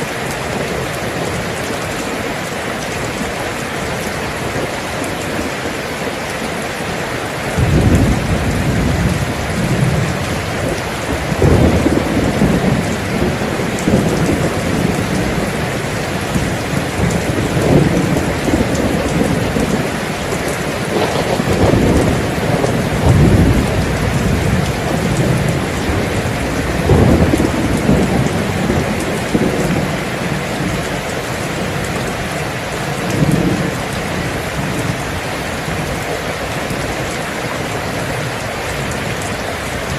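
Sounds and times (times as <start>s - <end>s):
steady rain falling: 0.0s - 39.9s
thunder rumbling: 7.4s - 39.9s.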